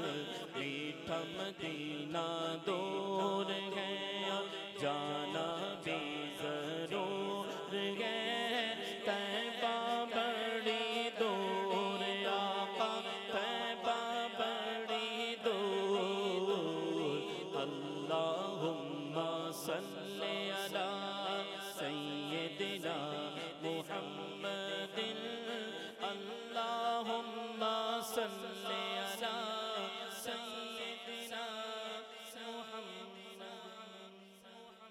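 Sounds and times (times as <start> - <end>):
man singing into a microphone: 0.0 - 34.9.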